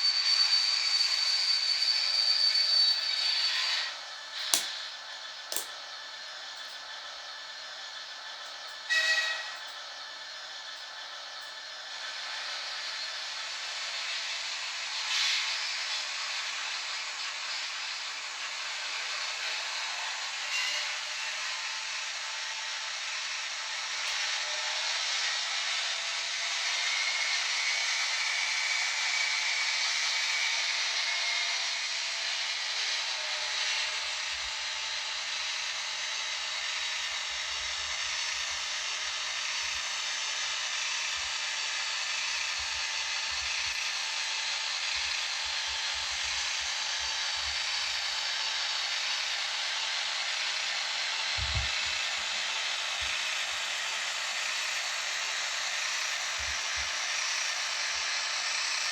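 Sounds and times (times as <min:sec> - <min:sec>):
model train motor whirring: 0:00.0 - 0:58.9.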